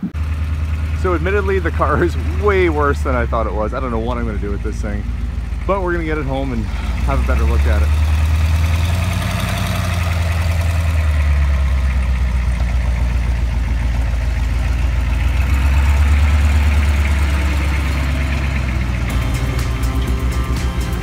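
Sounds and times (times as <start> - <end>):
tow truck engine idling: 0.0 - 21.0.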